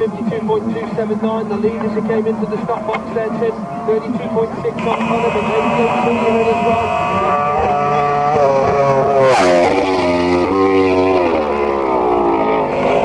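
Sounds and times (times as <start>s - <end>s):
motorcycle engine passing and upshifting: 0.0s - 13.0s.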